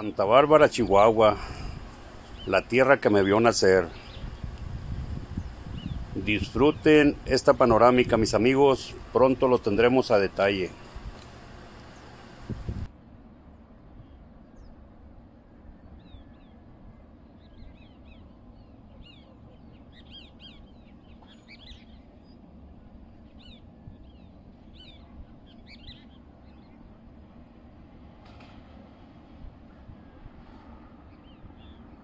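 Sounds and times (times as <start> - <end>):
birds chirping: 0.0 - 12.9, 15.5 - 27.6, 29.6 - 32.0
low background rumble: 0.0 - 32.0.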